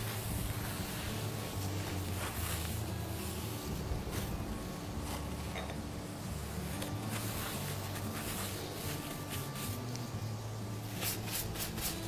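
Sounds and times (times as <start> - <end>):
hands rustling in flour: 0.0 - 10.2, 10.8 - 12.0
low steady hum: 0.0 - 12.0.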